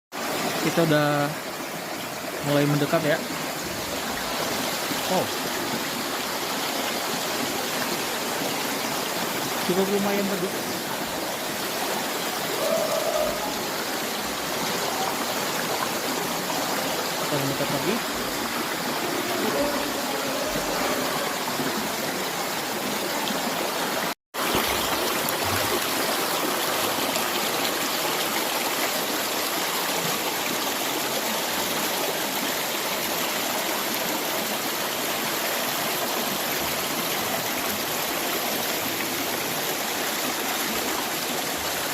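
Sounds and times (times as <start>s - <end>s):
waterfall rushing: 0.2s - 41.9s.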